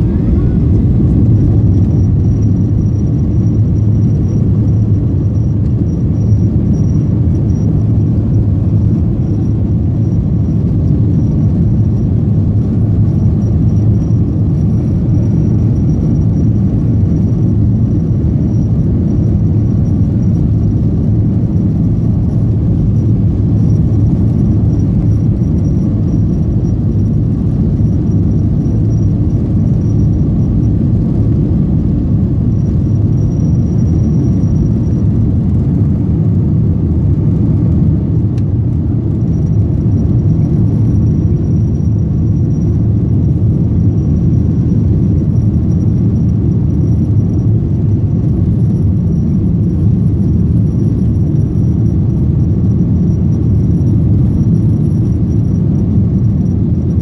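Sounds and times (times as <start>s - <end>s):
faint high whine: 0.0s - 57.0s
jet engines rumbling: 0.0s - 57.0s.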